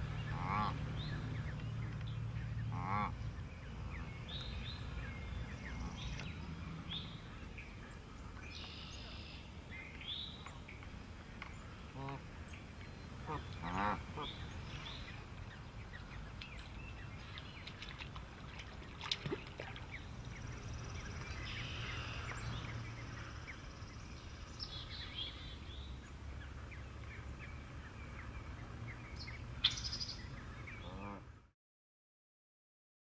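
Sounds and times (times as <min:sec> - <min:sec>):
steady low rumble: 0:00.0 - 0:31.2.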